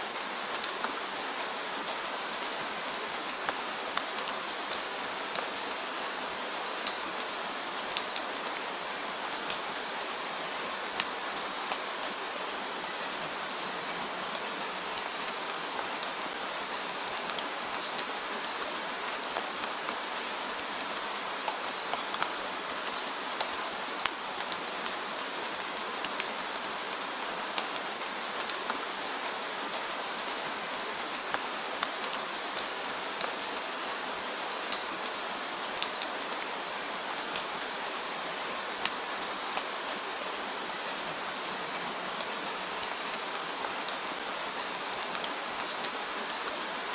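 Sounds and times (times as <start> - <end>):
steady rain hissing: 0.0 - 46.9
raindrops striking a surface: 0.1 - 46.9.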